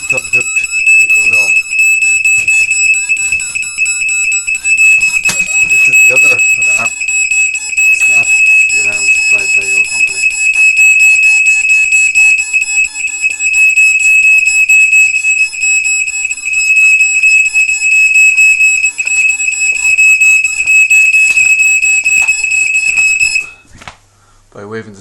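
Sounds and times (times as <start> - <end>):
smoke alarm high-pitched tone: 0.0 - 23.7.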